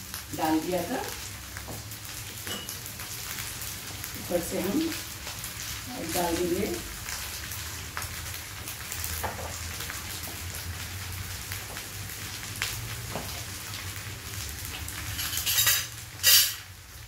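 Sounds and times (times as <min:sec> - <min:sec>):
rice sizzling in a wok: 0:00.0 - 0:17.0.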